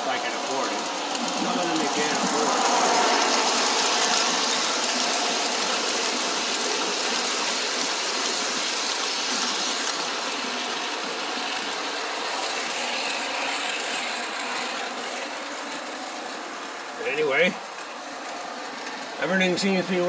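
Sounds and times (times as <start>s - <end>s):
model trains running on track: 0.0s - 20.0s.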